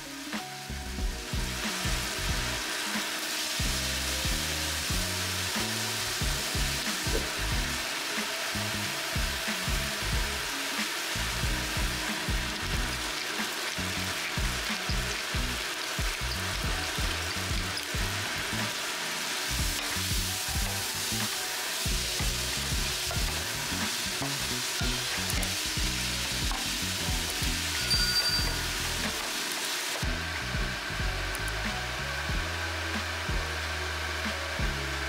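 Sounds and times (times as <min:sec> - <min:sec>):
food sizzling in oil: 0:00.0 - 0:35.0.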